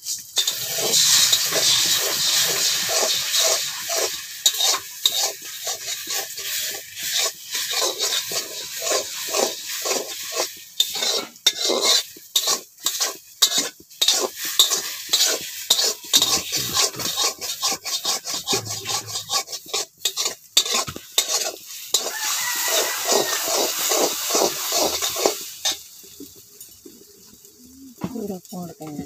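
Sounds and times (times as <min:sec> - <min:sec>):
metal spatula scraping pan: 0:00.0 - 0:25.9
eggs sizzling in oil: 0:00.0 - 0:29.0.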